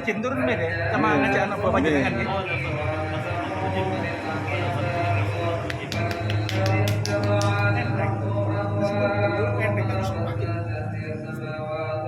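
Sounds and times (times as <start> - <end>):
melodic chanting: 0.5 - 12.0.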